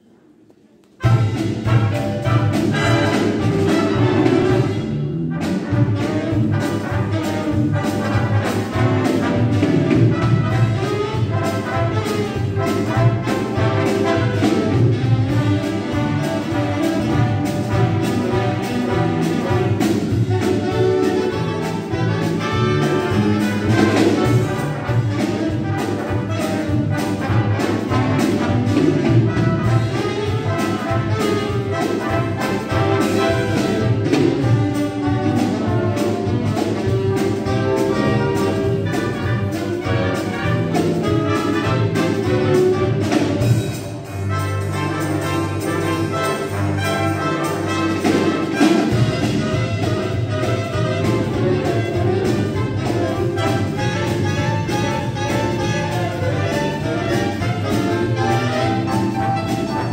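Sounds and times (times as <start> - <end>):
brass band playing jazz: 0.0 - 59.9.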